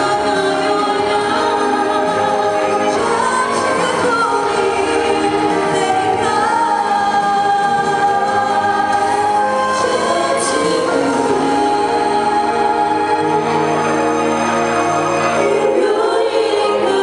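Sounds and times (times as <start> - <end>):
vocal group singing pop ballad: 0.0 - 17.0.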